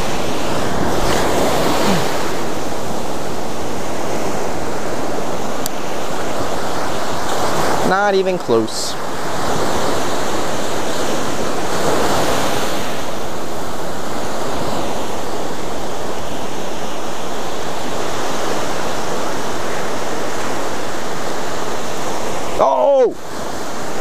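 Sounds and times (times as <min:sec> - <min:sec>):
ocean surf breaking: 0:00.0 - 0:24.0
wind on microphone: 0:00.0 - 0:24.0.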